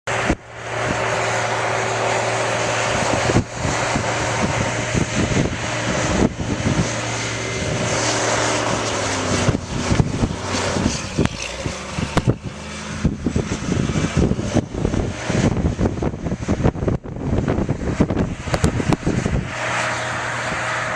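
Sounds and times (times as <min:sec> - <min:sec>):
vehicle engine running: 0:00.1 - 0:20.9.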